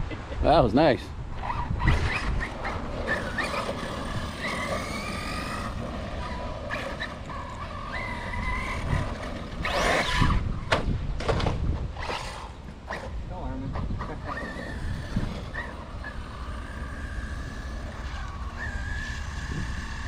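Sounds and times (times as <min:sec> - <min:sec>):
radio-controlled car motors whining: 0:01.4 - 0:10.6, 0:12.0 - 0:20.0.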